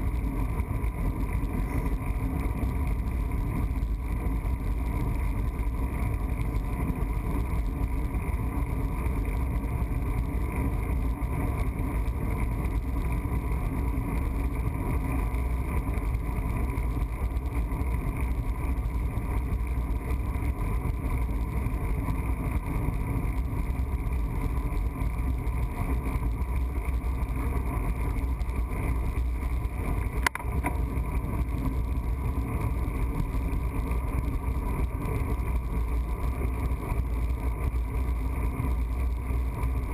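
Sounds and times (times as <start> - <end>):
bicycle road noise: 0.0 - 39.9.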